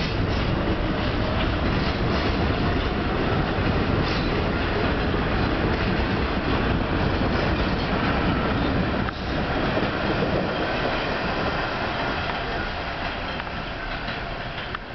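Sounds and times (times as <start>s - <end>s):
subway train rolling on tracks: 0.0s - 14.9s.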